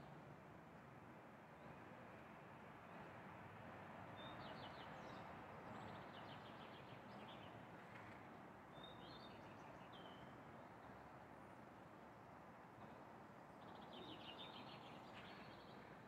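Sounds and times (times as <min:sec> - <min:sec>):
faint city noise: 0:00.0 - 0:16.0.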